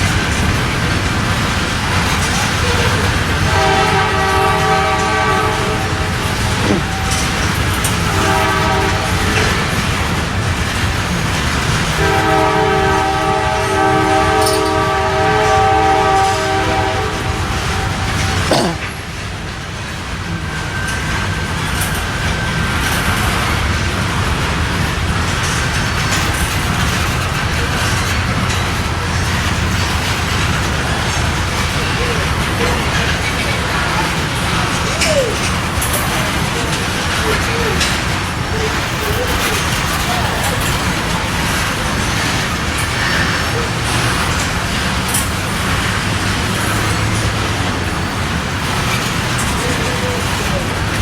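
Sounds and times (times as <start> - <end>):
train rumbling past: 0.0 - 51.0.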